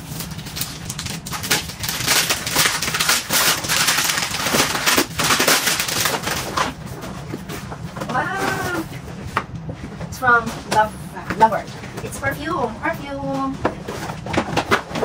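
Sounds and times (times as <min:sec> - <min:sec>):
cardboard packaging rustling: 0:00.0 - 0:10.8, 0:13.3 - 0:15.0.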